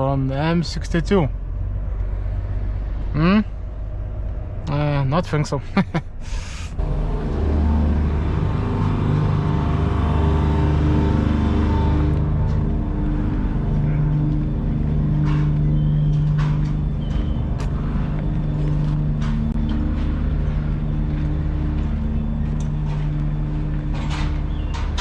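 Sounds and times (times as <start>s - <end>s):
lorry diesel engine drone: 0.0s - 25.0s.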